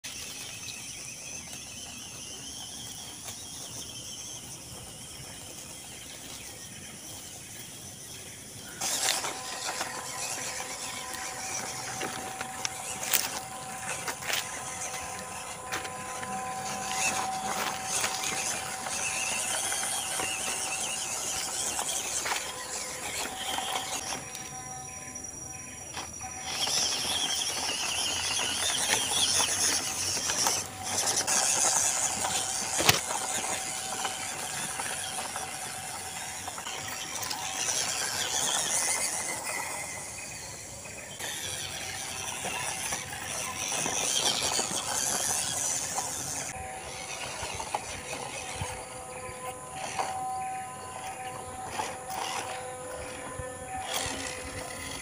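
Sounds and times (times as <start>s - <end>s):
toy truck motor whining: 0.0s - 55.0s
tyres crackling over dry leaves: 0.0s - 55.0s.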